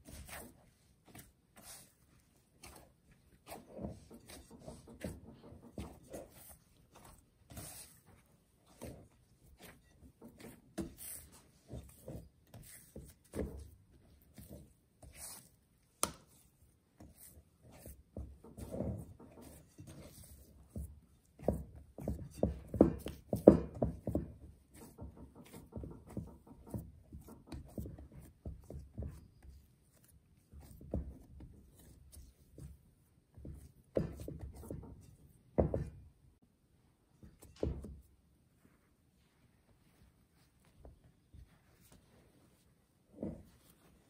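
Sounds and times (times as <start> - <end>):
dough squishing and slapping: 0.0 - 36.5.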